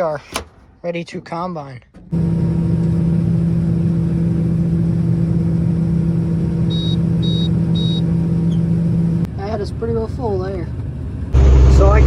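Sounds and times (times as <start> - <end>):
diesel engine running steadily: 2.0 - 12.0.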